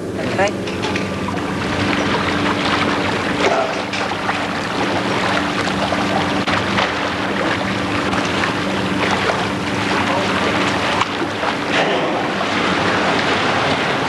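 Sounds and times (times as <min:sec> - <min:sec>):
steady low hum: 0:00.0 - 0:14.0
water churning and sloshing: 0:00.0 - 0:14.0.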